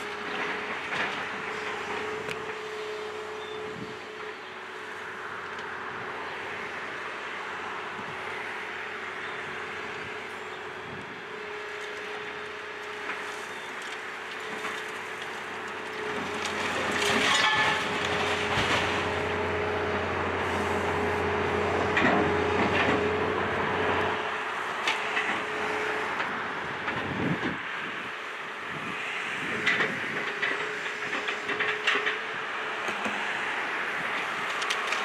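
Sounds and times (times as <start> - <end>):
excavator diesel engine whine: 0.0 - 35.0.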